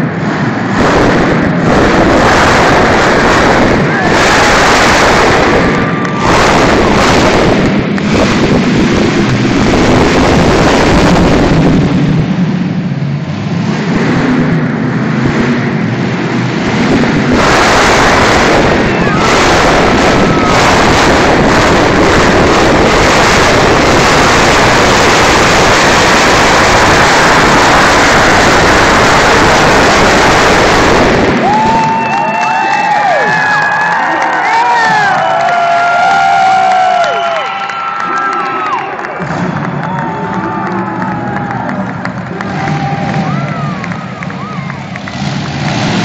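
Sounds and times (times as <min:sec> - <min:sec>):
monster truck engine revving: 0:00.0 - 0:46.0.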